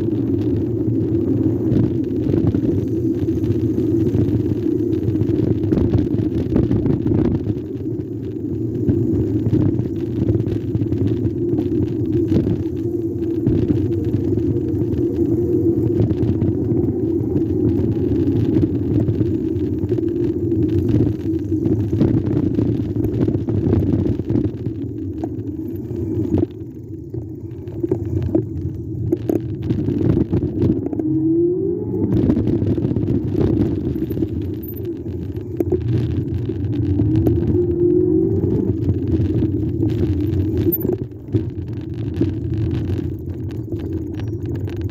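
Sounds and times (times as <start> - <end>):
e-bike riding rumble: 0.0 - 44.9.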